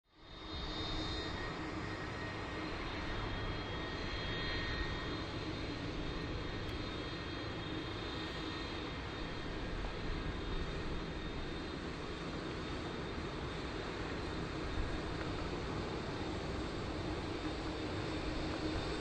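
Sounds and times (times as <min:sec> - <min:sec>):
jet engines taxiing: 0:00.2 - 0:19.0.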